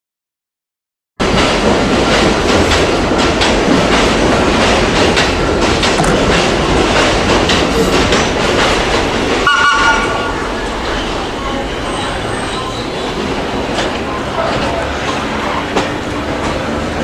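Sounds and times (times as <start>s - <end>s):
train rolling past: 1.2s - 17.0s
wheels clacking over rail joints: 1.2s - 17.0s.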